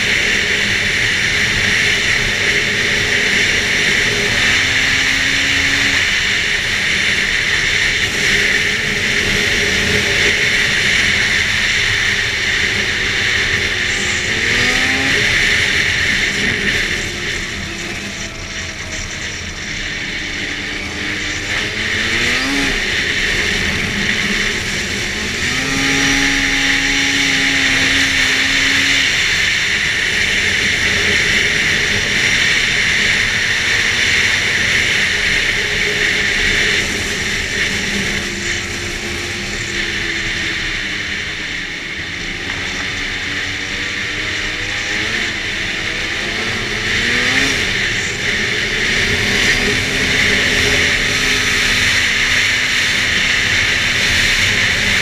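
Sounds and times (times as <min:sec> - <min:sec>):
snowmobile engine revving: 0:00.0 - 0:55.0
track and wind noise: 0:00.0 - 0:55.0.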